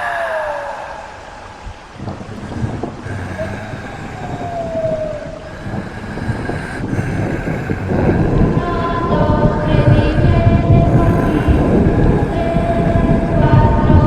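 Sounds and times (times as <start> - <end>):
dark rumbling wind-like noise: 0.0 - 14.0
thin moaning falling tone: 0.0 - 14.0.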